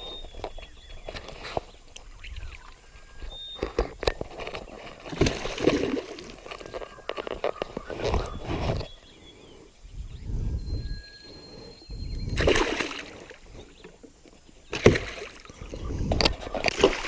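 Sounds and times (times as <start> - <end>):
water sloshing around a canoe: 0.0 - 9.0, 12.2 - 17.0.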